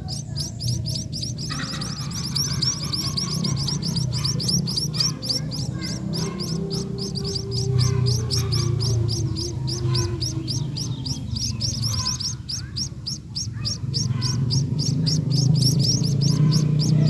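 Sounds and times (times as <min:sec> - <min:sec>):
birds chirping rapidly: 0:00.0 - 0:17.0
low hum: 0:00.0 - 0:17.0.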